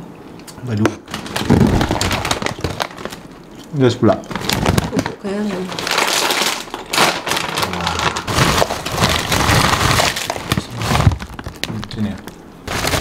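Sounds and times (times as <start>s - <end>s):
crisps crunching while chewed: 0.8s - 13.0s.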